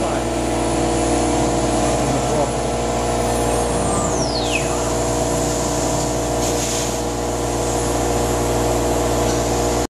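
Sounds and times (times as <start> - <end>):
high whine falling in pitch: 0.0 - 9.8
machinery humming: 0.0 - 9.9.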